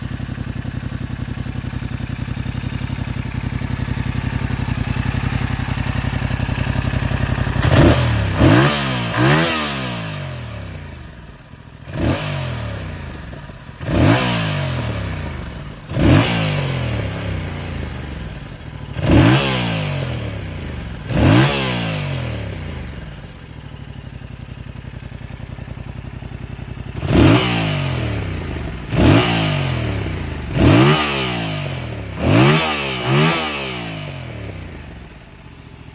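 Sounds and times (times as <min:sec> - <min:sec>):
motorcycle engine idling: 0:00.0 - 0:35.9
motorcycle engine revving: 0:00.0 - 0:35.9.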